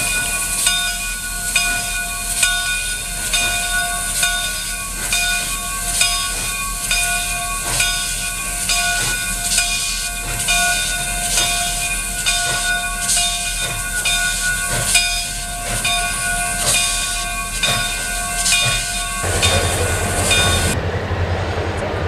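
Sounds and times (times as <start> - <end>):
bell ringing: 0.0 - 20.8
steam hissing: 0.0 - 20.8.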